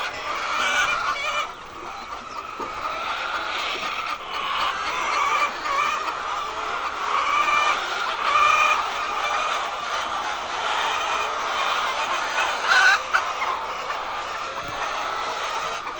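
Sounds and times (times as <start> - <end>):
hens clucking: 0.0 - 15.9.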